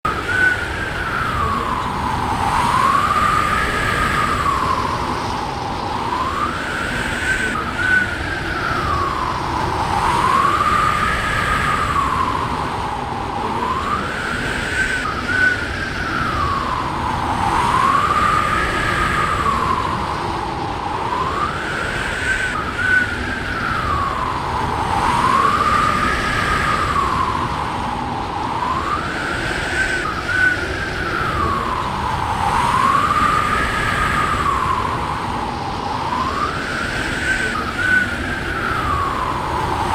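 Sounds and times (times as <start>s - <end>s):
strong wind howling: 0.0s - 39.9s.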